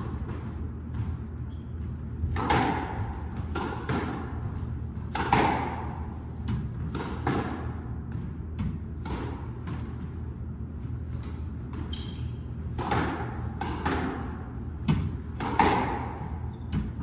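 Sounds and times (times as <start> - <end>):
ball hitting court walls: 0.0 - 17.0
racket hitting squash ball: 0.0 - 17.0.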